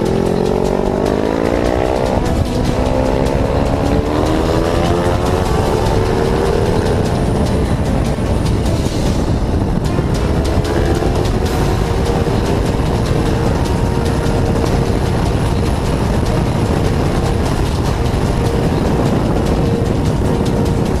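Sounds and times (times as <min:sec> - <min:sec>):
motorcycle engine running: 0:00.0 - 0:21.0
wind noise on helmet: 0:00.0 - 0:21.0.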